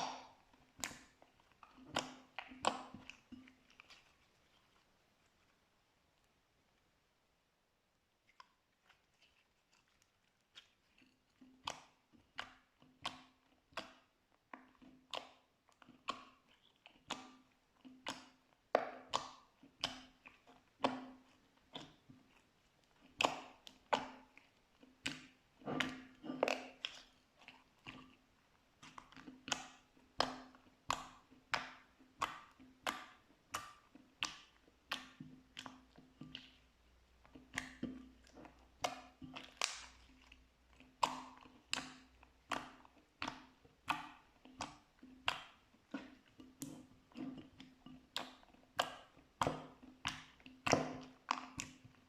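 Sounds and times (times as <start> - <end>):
slime clicking and popping: 0.0 - 4.2, 10.5 - 28.1, 28.8 - 52.0.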